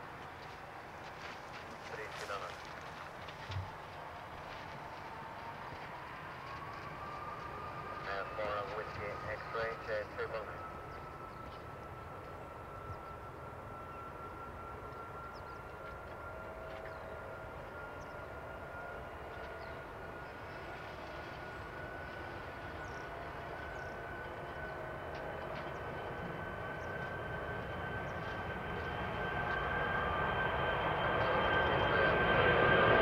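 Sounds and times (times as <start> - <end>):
distant jet engines whining: 0.0 - 33.0.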